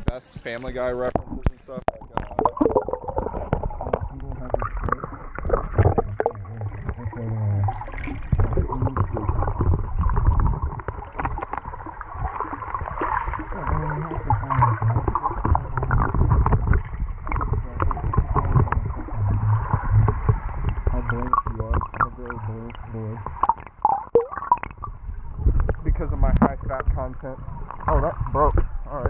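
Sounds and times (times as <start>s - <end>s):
knocks and crackles: 0.0s - 7.1s, 8.1s - 13.5s, 14.1s - 27.0s
muffled water splashing and bubbling: 0.0s - 29.0s
low rumble: 1.2s - 23.3s, 24.8s - 29.0s.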